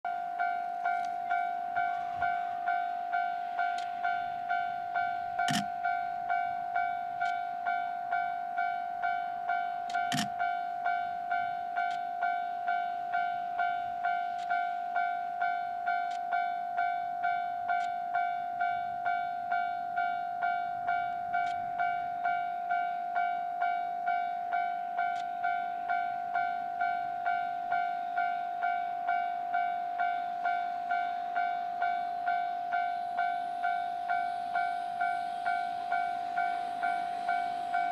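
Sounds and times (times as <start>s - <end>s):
crossing warning bell dinging: 0.1s - 37.9s.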